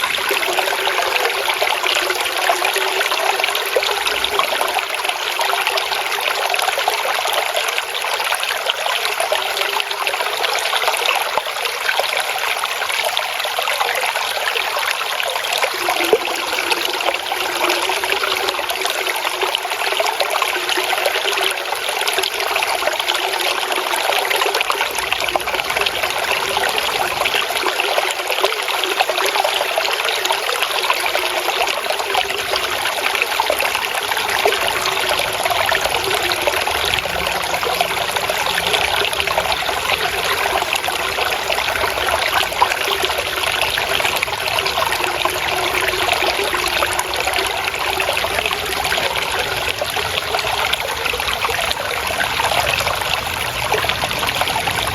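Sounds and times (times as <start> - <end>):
stream babbling: 0.0 - 54.9.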